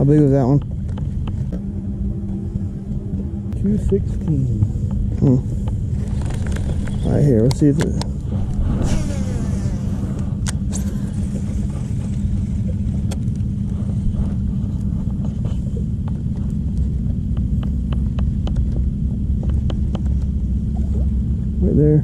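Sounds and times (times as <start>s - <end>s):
electric boat motor humming: 0.0s - 22.0s.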